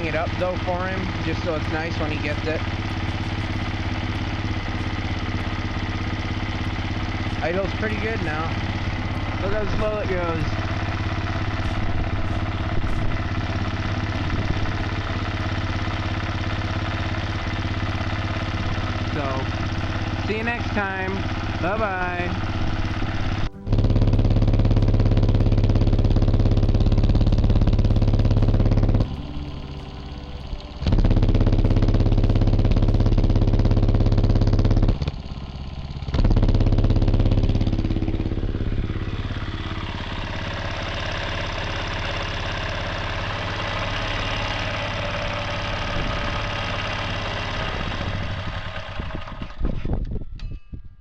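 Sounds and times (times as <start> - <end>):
small engine idling: 0.0 - 50.3.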